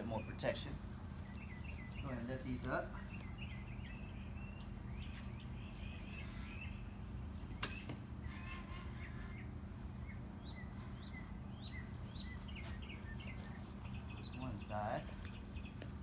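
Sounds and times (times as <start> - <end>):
low outdoor background: 0.0 - 16.0
small birds chirping: 0.0 - 16.0.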